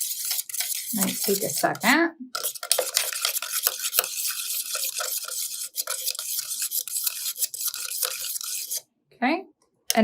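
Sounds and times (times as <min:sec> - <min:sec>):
spoon scraping plastic cup: 0:00.0 - 0:08.8.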